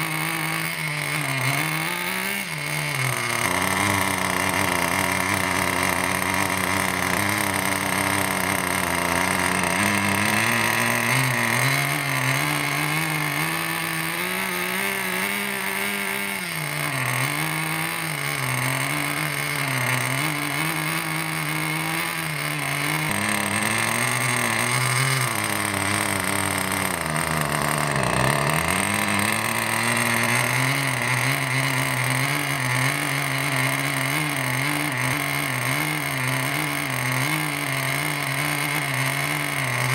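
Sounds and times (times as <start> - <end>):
small model engine revving: 0.0 - 39.9.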